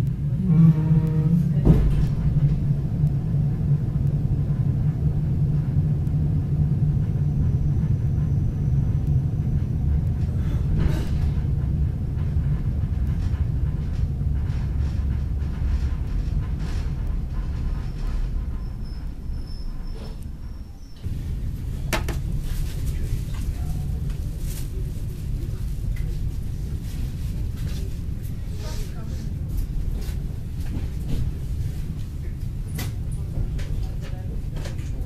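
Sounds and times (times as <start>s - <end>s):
train car rumbling: 0.0s - 35.0s.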